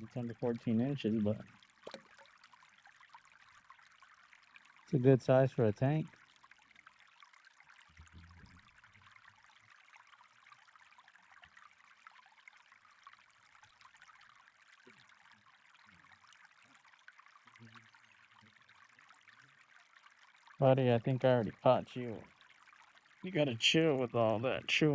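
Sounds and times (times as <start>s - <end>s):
running water: 0.0s - 24.9s.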